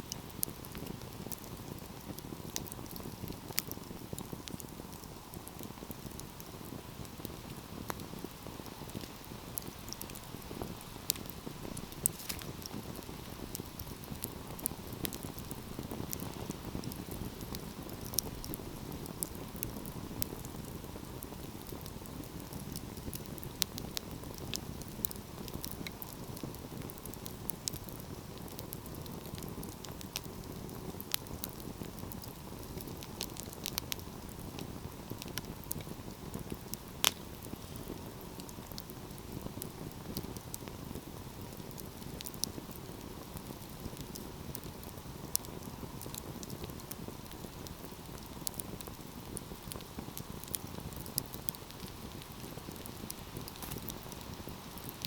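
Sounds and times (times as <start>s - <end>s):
fire crackling and popping: 0.0s - 55.0s
wood fire rumbling: 0.1s - 55.0s.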